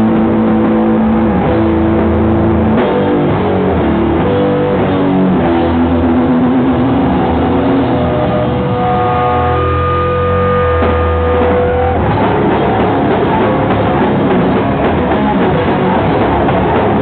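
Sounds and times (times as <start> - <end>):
distorted electric guitar: 0.0 - 17.0
rock band playing: 0.0 - 17.0.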